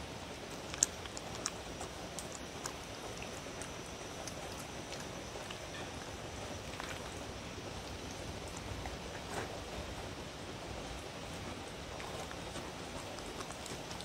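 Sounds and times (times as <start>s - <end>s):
dog sniffing and licking bowl: 0.4s - 10.0s, 10.8s - 14.0s.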